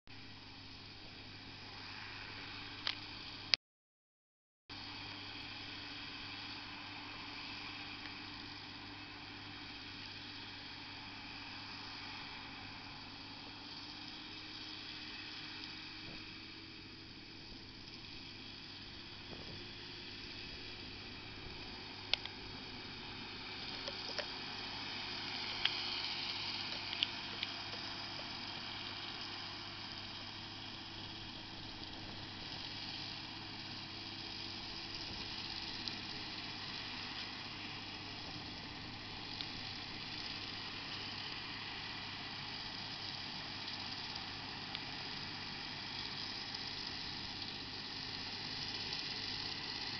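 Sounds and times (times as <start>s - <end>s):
tractor running: 0.3s - 3.6s, 4.8s - 49.9s.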